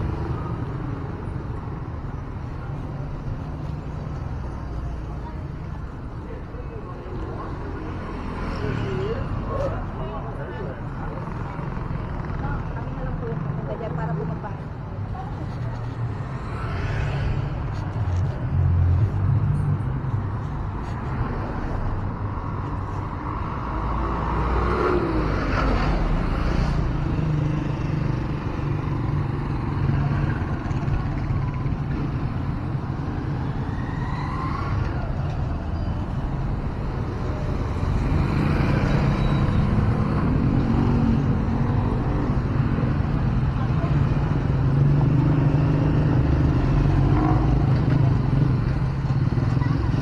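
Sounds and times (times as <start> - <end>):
engines passing by: 0.0 - 50.0
traffic rumble: 0.0 - 50.0.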